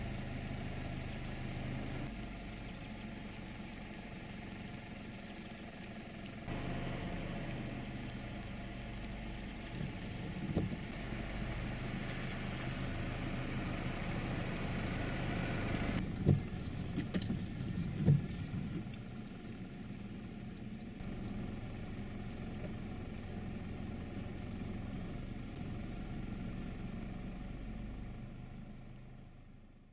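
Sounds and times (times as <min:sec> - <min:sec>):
vehicle engine idling: 0:00.0 - 0:29.9.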